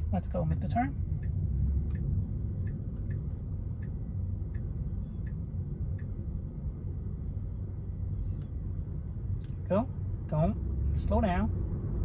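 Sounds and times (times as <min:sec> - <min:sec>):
car cabin and road noise: 0:00.0 - 0:12.0
turn signal ticking: 0:00.0 - 0:12.0.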